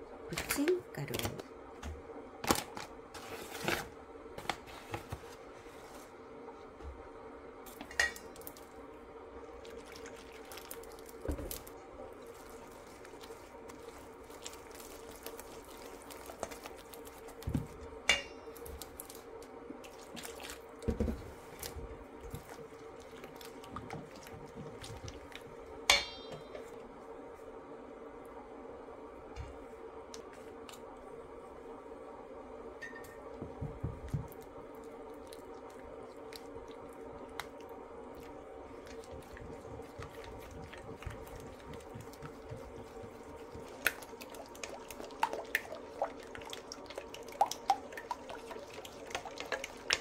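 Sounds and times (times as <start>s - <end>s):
steady hum: 0.0s - 50.0s.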